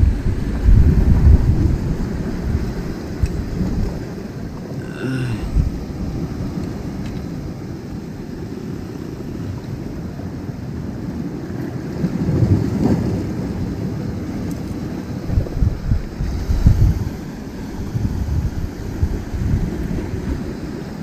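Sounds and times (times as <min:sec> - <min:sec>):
waves washing on shore: 0:00.0 - 0:21.0
wind buffeting microphone: 0:00.0 - 0:21.0.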